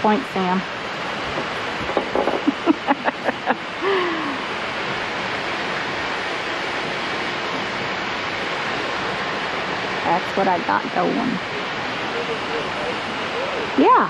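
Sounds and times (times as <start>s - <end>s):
turbulent water rushing: 0.0s - 14.0s.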